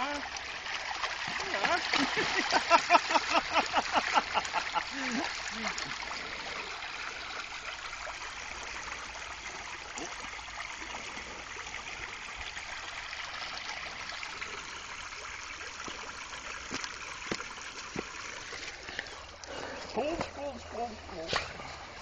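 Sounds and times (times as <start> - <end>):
stream rushing over stones: 0.0 - 22.0.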